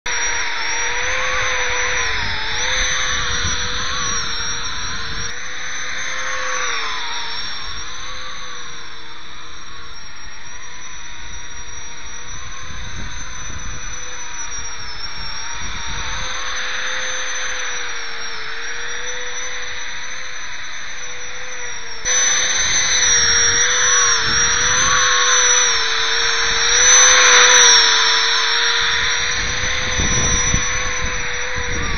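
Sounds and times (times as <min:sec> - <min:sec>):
ducted fan whining: 0:00.1 - 0:31.9.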